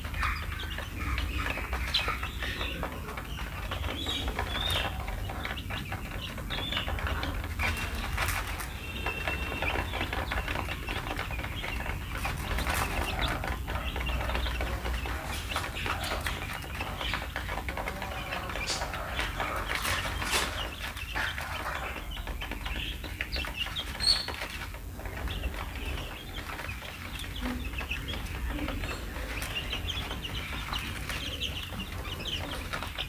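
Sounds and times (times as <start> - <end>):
chicks pecking grain in plastic tray: 0.0 - 33.0
chicks peeping: 0.0 - 33.0.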